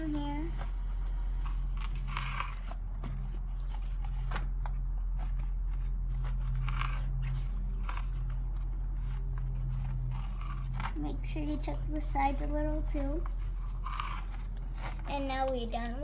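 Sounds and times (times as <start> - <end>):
bicycle tire rustling: 0.0 - 16.0
steady low hum: 0.0 - 16.0.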